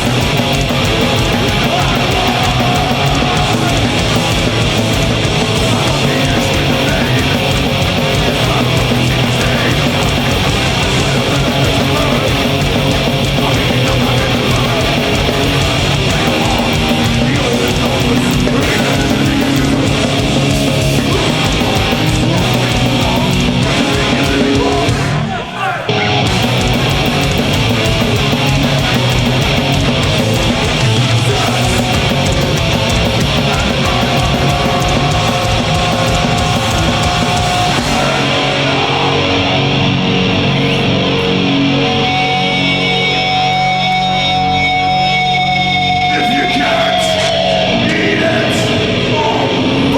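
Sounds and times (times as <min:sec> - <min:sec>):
live heavy metal band: 0:00.0 - 0:49.9.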